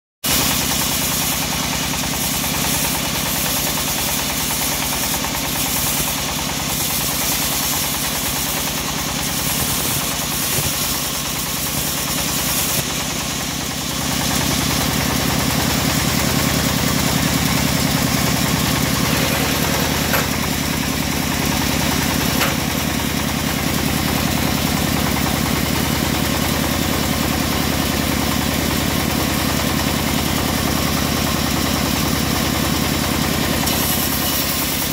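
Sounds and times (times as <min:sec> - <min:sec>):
band sawmill cutting log: 0:00.3 - 0:34.9.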